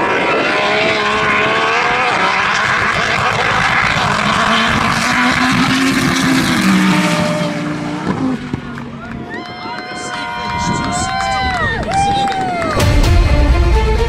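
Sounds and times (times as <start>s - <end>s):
car engines at full throttle: 0.0s - 14.0s.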